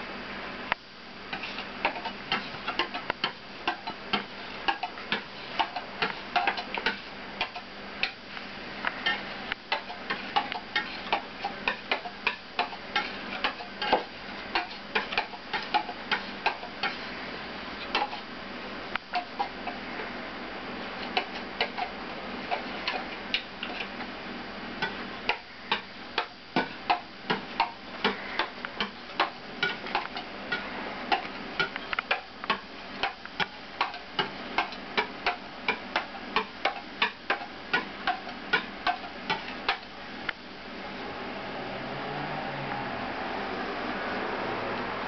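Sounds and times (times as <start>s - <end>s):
steady hiss: 0.0s - 42.1s.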